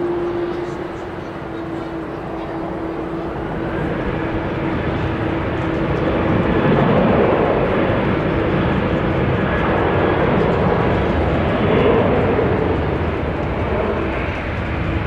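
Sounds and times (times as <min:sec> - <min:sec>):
jet engine rumble: 0:00.0 - 0:15.0
jet engine whine: 0:00.0 - 0:15.0.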